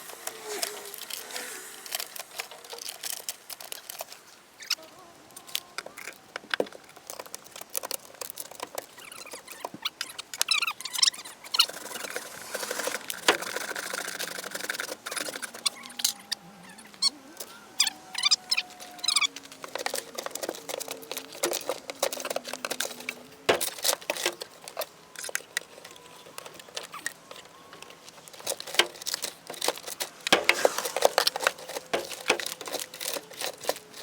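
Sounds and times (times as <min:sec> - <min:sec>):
wood squeaks: 0:00.0 - 0:34.0.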